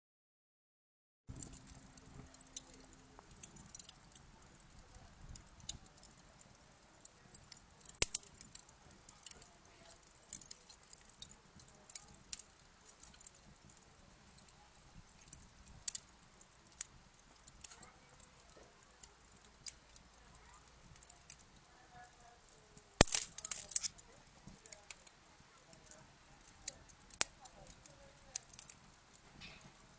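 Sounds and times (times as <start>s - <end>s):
wood fire crackling and popping: 1.3s - 29.9s.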